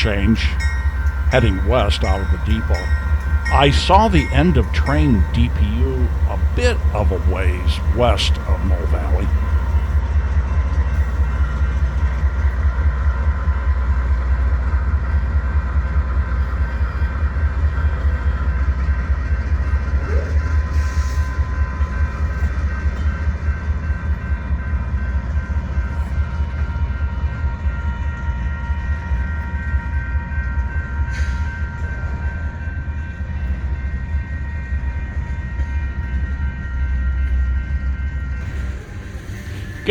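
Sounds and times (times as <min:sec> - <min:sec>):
diesel freight train rumble: 0:00.0 - 0:39.9.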